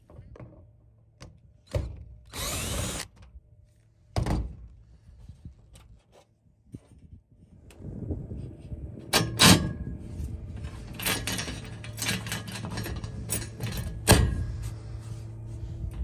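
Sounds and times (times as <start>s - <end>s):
steady low hum: 0.7s - 16.0s.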